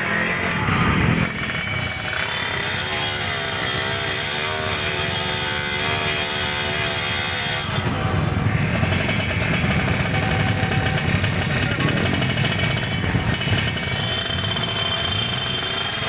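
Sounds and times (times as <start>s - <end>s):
motorcycle engines racing: 0.0s - 16.0s.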